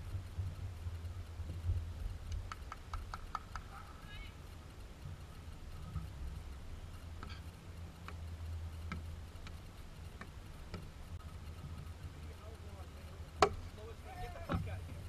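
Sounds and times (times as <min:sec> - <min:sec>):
faint ticks: 0:00.0 - 0:15.0
low wind rumble: 0:00.0 - 0:15.0.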